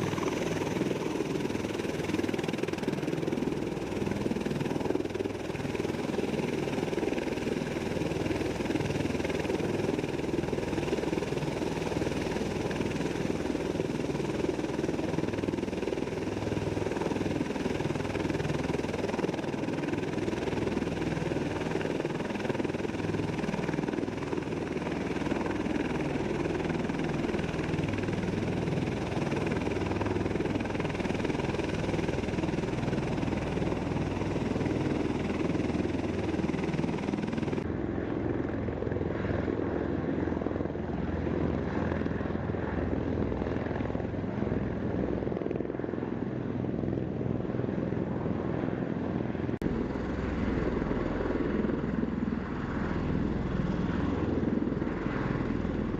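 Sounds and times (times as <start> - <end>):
aircraft engines and rotors droning: 0.0 - 55.9.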